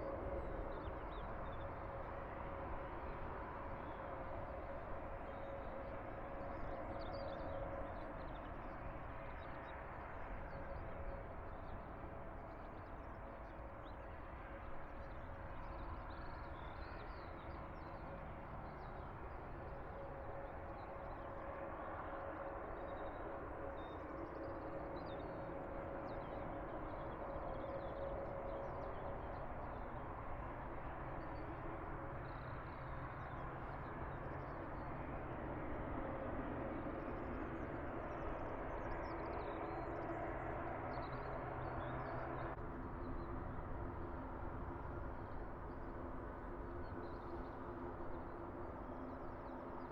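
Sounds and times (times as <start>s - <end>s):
aircraft engines droning: 0.0s - 49.9s.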